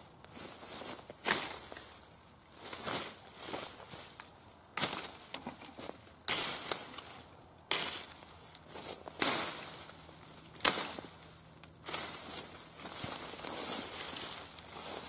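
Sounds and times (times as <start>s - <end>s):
footsteps crunching through dry grass: 0.0s - 15.0s.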